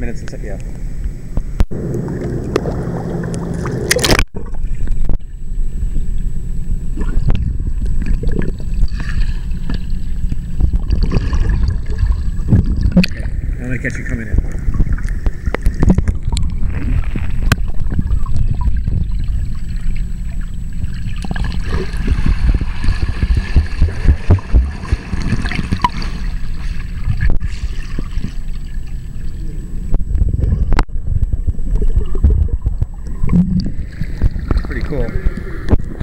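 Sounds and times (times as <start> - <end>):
muffled underwater churning and bubbling: 0.0 - 36.0.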